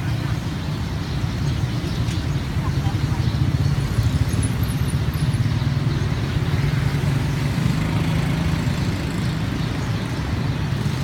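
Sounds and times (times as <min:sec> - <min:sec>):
motor traffic humming: 0:00.0 - 0:11.0.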